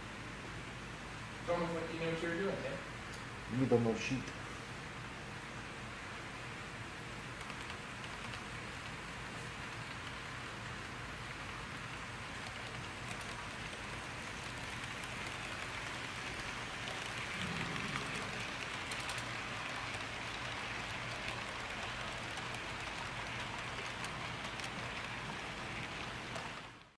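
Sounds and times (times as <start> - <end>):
faint low hum: 0.0 - 26.9
steady hiss: 0.0 - 26.9.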